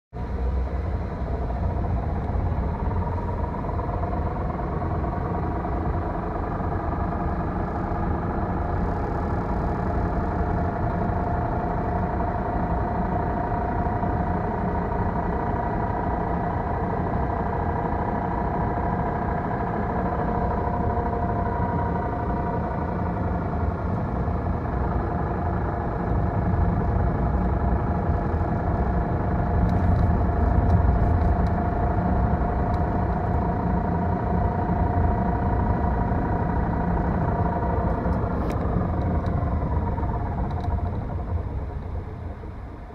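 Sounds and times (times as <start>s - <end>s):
car engine and road rumble: 0.1s - 42.9s
transmission whine: 0.2s - 42.9s.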